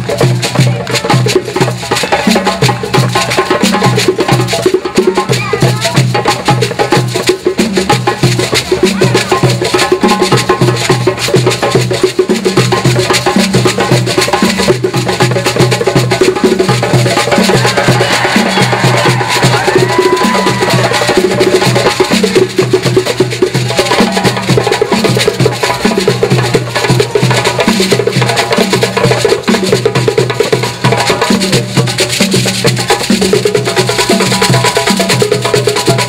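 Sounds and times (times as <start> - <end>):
hand drums: 0.0 - 36.0.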